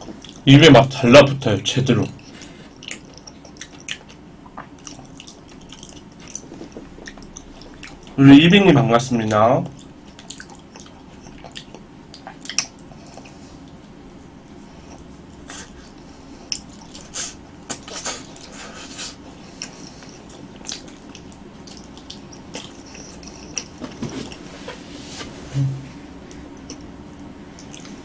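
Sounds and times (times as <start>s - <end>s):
wet chewing and lip smacks: 0.0s - 0.4s, 2.2s - 8.2s, 9.7s - 24.5s, 26.3s - 28.0s.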